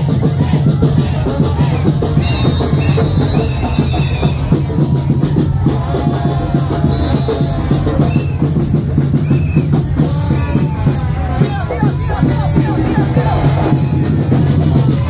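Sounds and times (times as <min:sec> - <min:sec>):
fast drums and percussion: 0:00.0 - 0:15.0.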